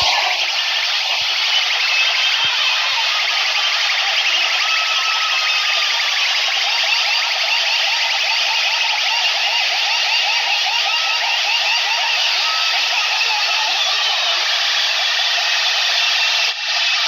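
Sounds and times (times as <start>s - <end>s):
siren-like warbling tones: 0.0s - 14.9s.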